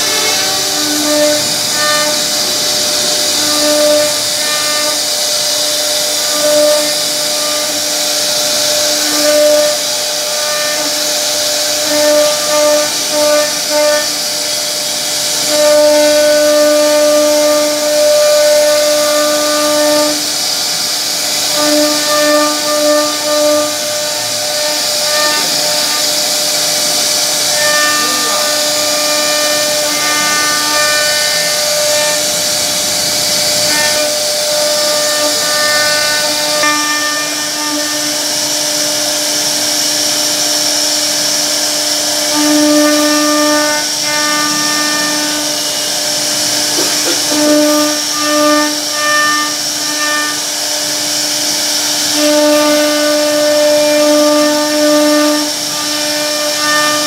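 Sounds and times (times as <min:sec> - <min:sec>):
bit carving wood hiss: 0:00.0 - 0:57.0
router spindle whining: 0:00.0 - 0:57.0.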